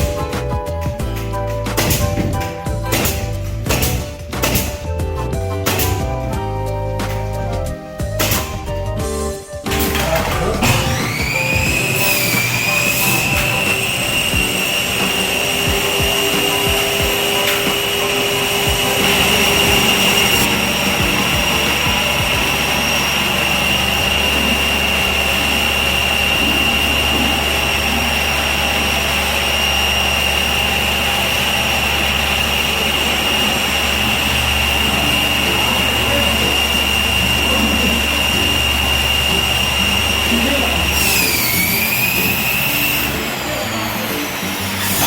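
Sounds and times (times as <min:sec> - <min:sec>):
power tool motor whining: 0:08.0 - 0:45.0.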